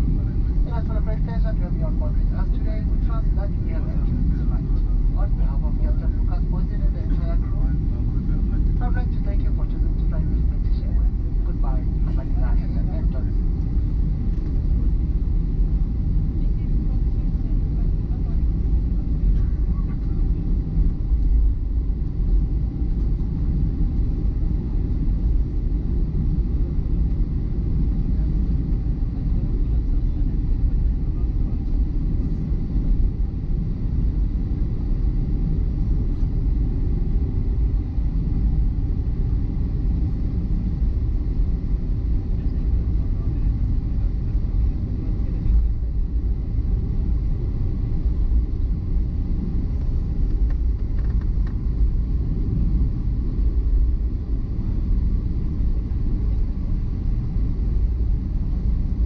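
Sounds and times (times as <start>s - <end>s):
airplane cabin rumble: 0.0s - 59.0s
engine whine: 0.0s - 59.0s.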